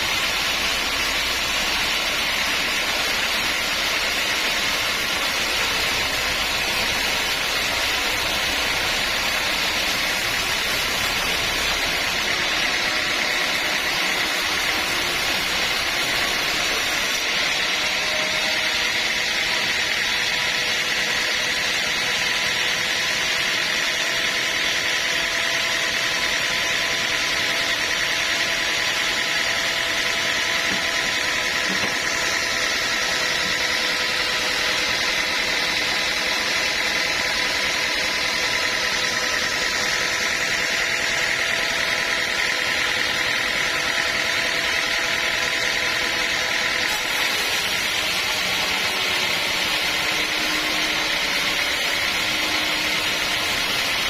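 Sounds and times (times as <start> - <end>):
machine whine: 0.0 - 54.0
sawmill machinery humming: 0.0 - 54.0.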